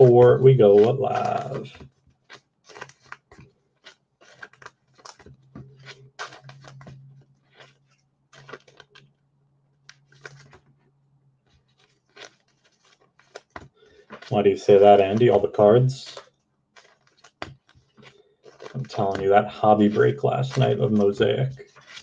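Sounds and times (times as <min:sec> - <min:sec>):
trading cards and wrappers rustling: 0:00.0 - 0:22.0.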